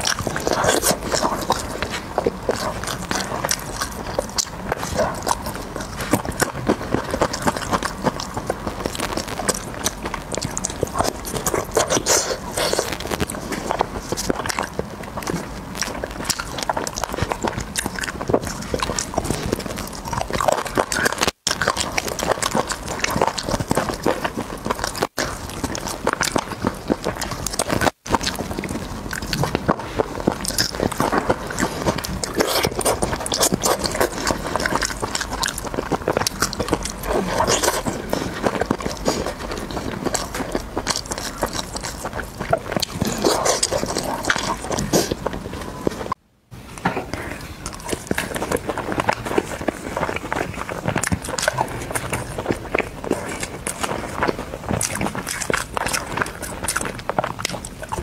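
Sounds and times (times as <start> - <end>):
meat tearing off bone: 0.0 - 46.1, 47.7 - 58.0
person chewing meat: 0.0 - 46.2, 47.0 - 58.0.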